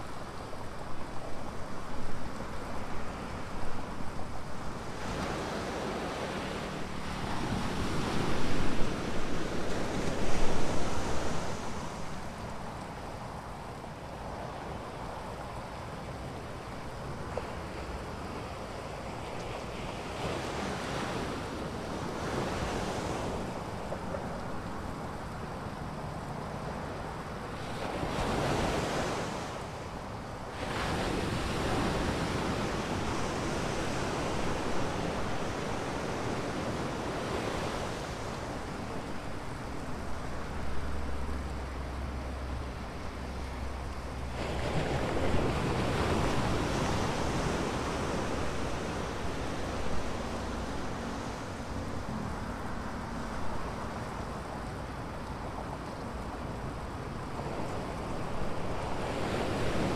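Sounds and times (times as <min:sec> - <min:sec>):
ocean surf breaking on beach: 0:00.0 - 0:15.0, 0:16.1 - 0:59.9.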